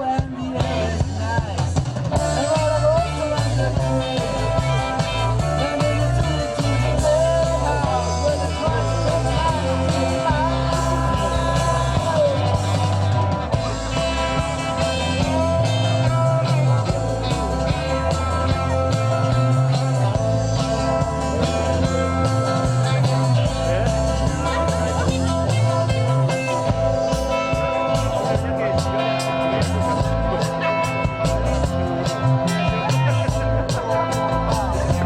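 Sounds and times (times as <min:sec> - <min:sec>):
bass line: 0:00.0 - 0:35.0
guitar: 0:00.0 - 0:35.0.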